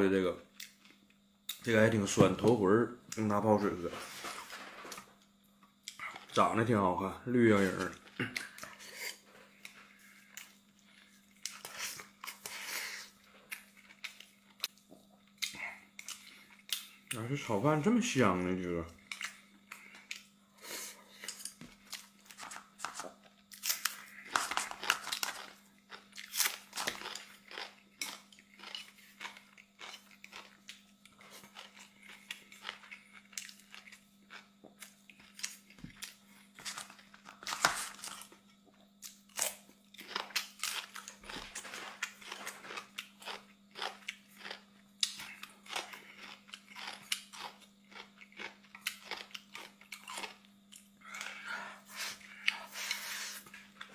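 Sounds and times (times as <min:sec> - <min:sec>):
faint steady hum: 0:00.0 - 0:53.9
person chewing and crunching: 0:04.1 - 0:06.4, 0:07.5 - 0:17.3, 0:19.0 - 0:20.4, 0:21.1 - 0:53.9.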